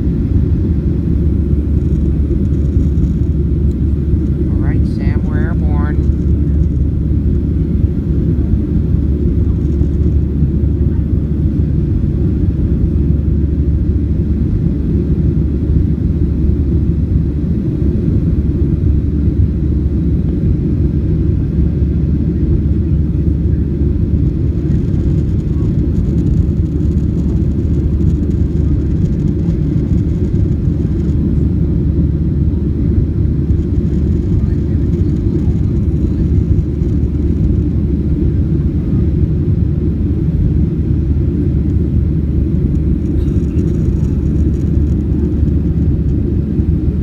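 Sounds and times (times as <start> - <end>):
jet engine rumble in cabin: 0.0 - 47.0.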